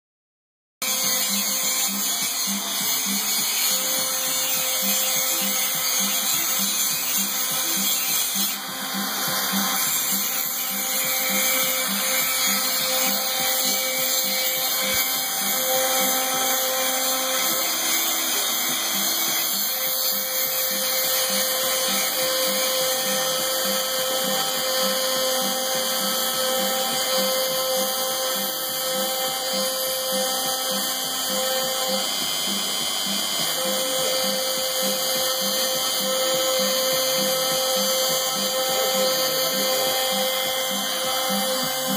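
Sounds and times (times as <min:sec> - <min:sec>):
router spindle whining: 0:00.8 - 0:41.9.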